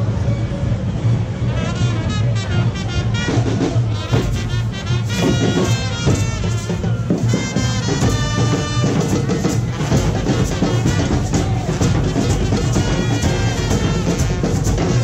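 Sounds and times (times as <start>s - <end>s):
street band playing: 0.0s - 15.0s
drums beating: 2.8s - 15.0s.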